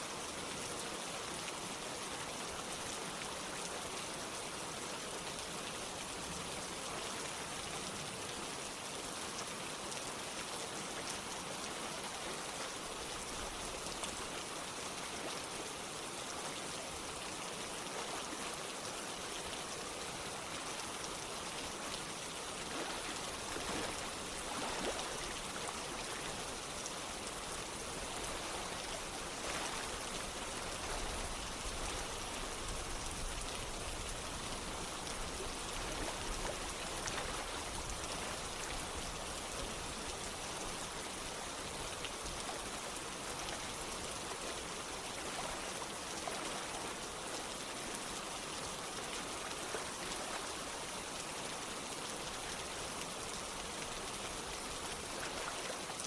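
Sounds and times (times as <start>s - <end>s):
running water: 0.0s - 56.0s
steady rain: 0.0s - 56.0s.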